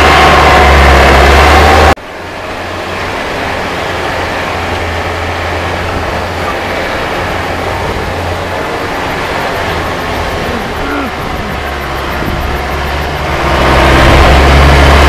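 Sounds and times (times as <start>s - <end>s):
loud vehicle engine drone: 0.0s - 15.0s
steady noise with low hum: 0.0s - 15.0s.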